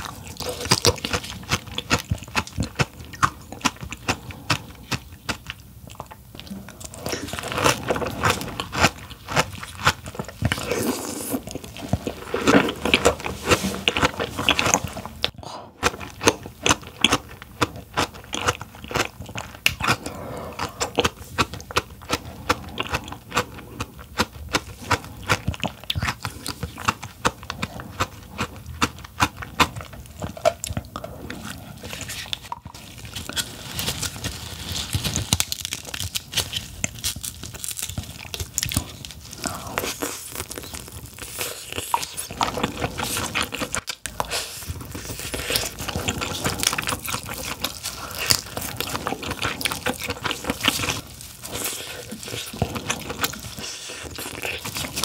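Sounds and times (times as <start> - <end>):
chewing and crunching crab: 0.0 - 55.0.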